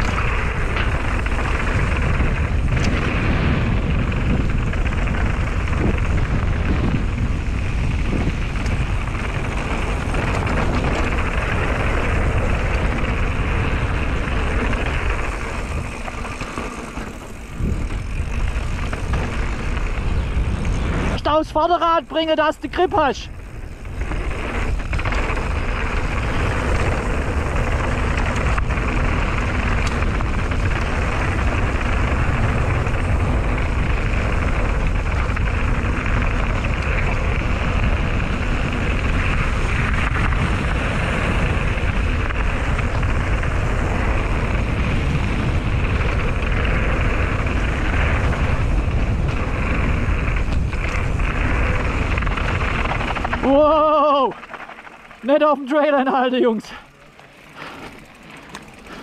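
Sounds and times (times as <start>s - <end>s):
bike tyres rumbling on gravel: 0.0s - 59.0s
wind buffeting microphone: 0.0s - 59.0s.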